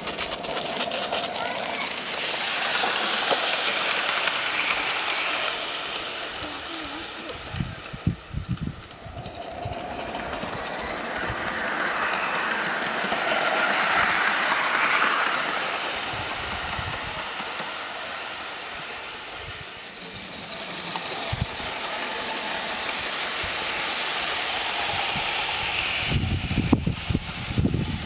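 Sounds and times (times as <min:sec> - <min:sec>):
steam hiss: 0:00.0 - 0:28.0.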